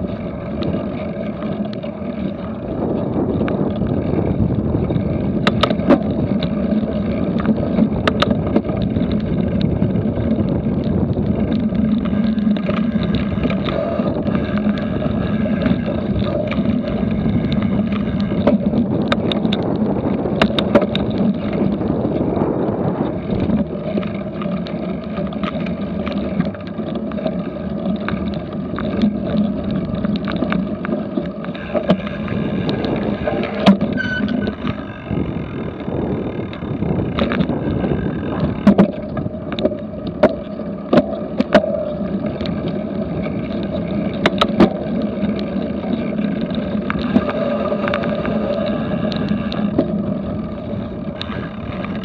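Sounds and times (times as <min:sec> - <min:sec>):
bike knocking and rattling: 0:00.0 - 0:52.0
wind and tyre noise: 0:00.0 - 0:52.0.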